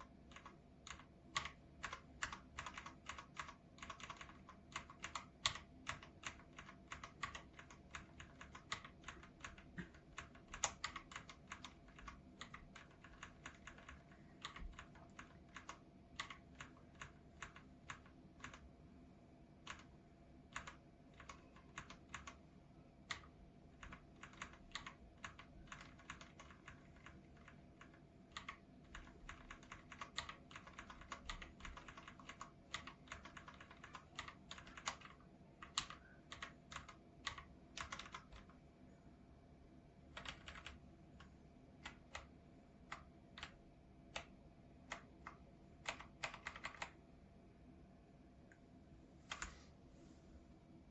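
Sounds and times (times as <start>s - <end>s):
typing on mechanical keyboard: 0.0s - 18.8s, 19.6s - 22.4s, 23.0s - 38.6s, 40.1s - 47.0s, 49.3s - 49.6s.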